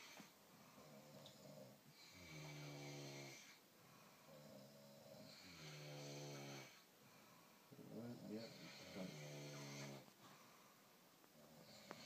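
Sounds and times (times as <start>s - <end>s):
faint snoring: 0.0s - 10.6s, 11.3s - 12.0s
quiet breath: 0.0s - 12.0s.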